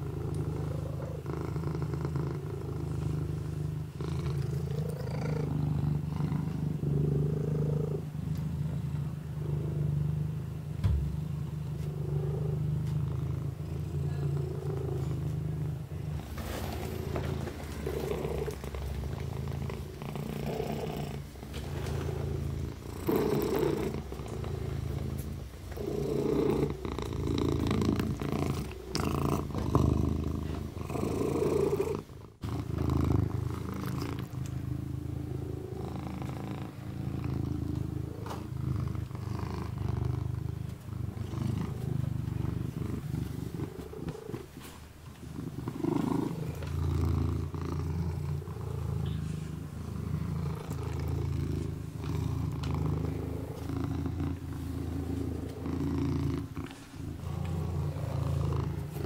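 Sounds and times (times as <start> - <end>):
kitten purring: 0.0 - 59.0.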